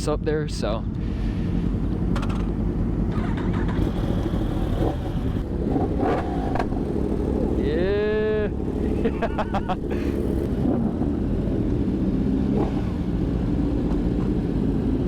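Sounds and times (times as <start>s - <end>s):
motorcycle engines at low revs: 0.0s - 15.0s.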